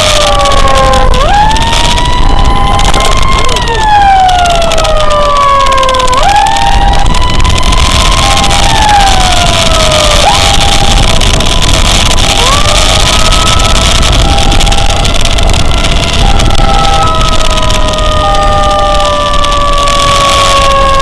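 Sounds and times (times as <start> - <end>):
pulsing siren tone: 0.0 - 21.0
vehicle wind and road noise: 0.0 - 21.0
wailing emergency sirens: 0.0 - 21.0.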